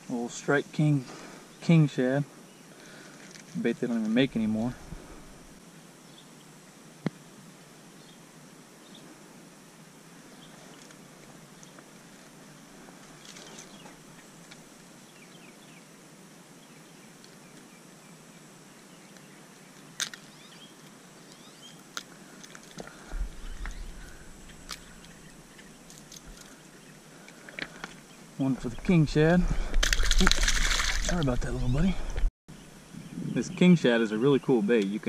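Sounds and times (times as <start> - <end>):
faint outdoor ambience: 0.0 - 35.0.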